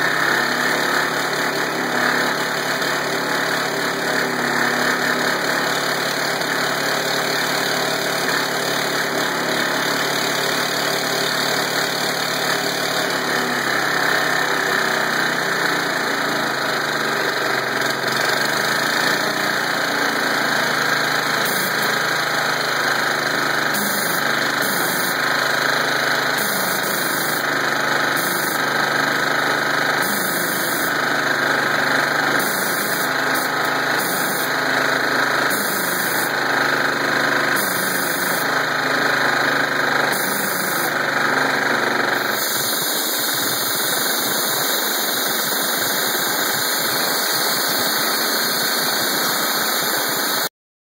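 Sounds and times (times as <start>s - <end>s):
air compressor running: 0.0s - 50.5s.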